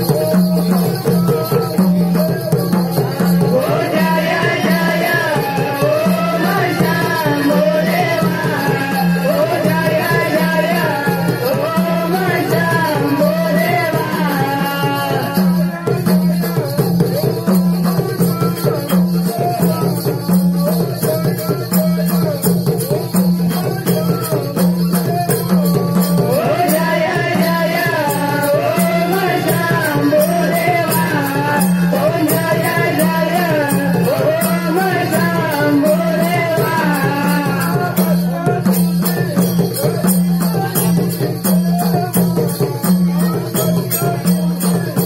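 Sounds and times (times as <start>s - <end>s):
barrel drum steady beat: 0.0s - 45.0s
person singing: 0.0s - 45.0s.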